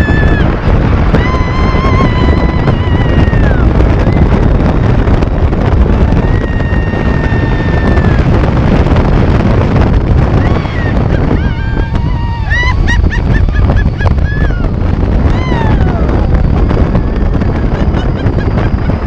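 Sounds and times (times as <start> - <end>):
ride vehicle rumble: 0.0 - 19.0
wind buffeting microphone: 0.0 - 19.0.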